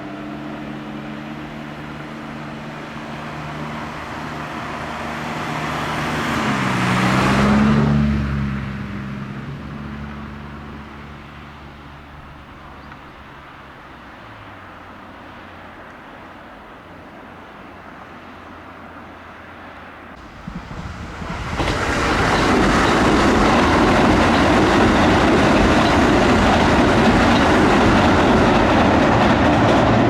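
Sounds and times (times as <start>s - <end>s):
road vehicle passing by: 0.0s - 30.0s.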